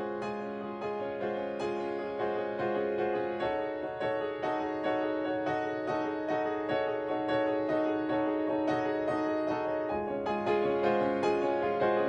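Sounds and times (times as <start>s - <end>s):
solo piano: 0.0s - 12.0s.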